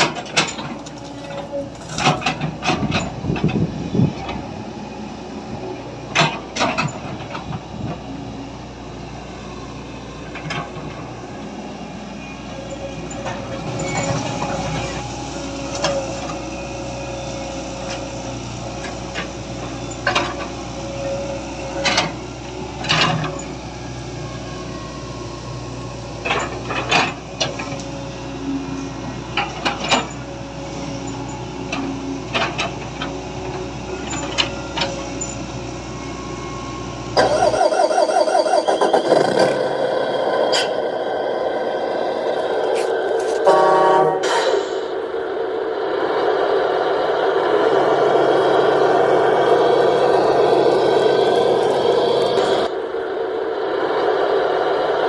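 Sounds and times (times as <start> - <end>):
steady mechanical hum: 0.0 - 37.7, 38.6 - 55.0.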